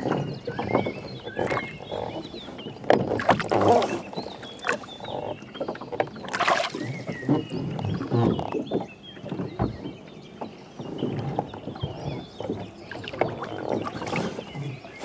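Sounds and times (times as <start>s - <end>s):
birds chirping: 0.0s - 15.0s
oar splashing in water: 0.0s - 15.0s
water lapping: 0.0s - 15.0s.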